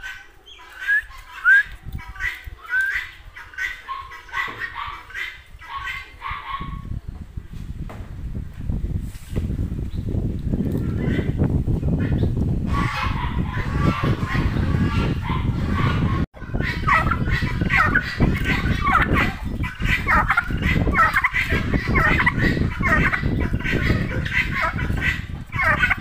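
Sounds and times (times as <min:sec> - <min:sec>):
turkey gobbling: 0:00.0 - 0:06.9, 0:12.0 - 0:26.0
farmyard fowl calls: 0:00.0 - 0:07.0, 0:10.6 - 0:11.4, 0:12.0 - 0:26.0.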